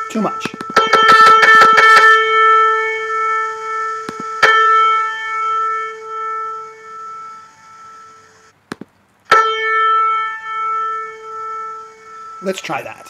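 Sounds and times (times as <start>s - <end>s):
piano strings ringing in unison: 0.0s - 8.5s, 9.3s - 13.0s.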